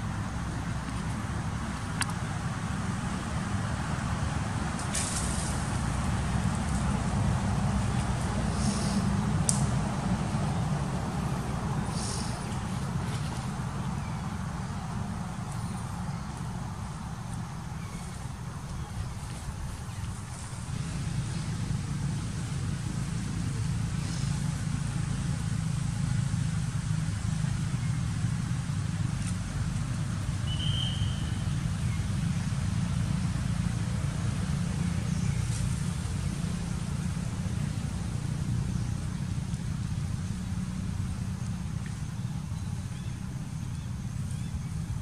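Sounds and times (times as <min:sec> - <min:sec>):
low steady engine hum: 0:00.0 - 0:45.0.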